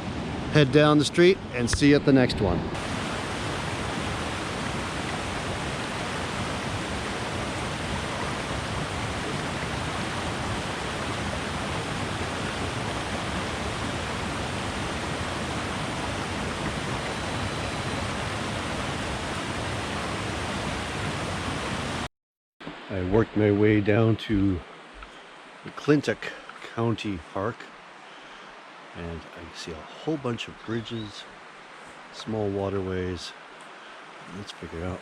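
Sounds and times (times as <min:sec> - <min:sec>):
rush of falling water: 0:02.8 - 0:22.1, 0:22.7 - 0:35.0.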